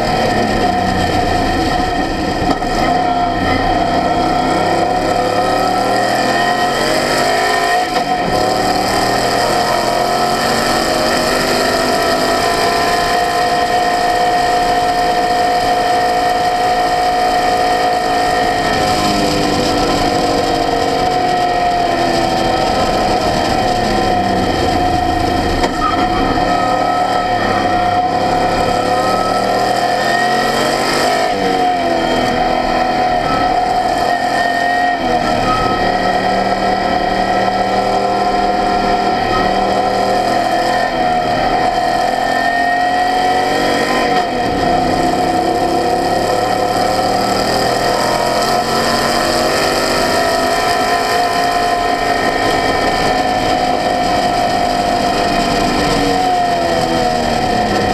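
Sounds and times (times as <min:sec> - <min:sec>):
race car engine revving: 0:00.0 - 0:57.9
steady whine: 0:00.0 - 0:57.9.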